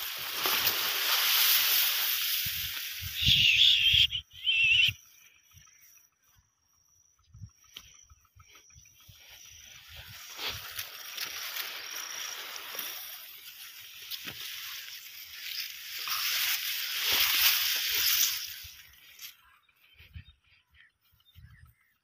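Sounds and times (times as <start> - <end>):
tall grass rustling: 0.0 - 21.6.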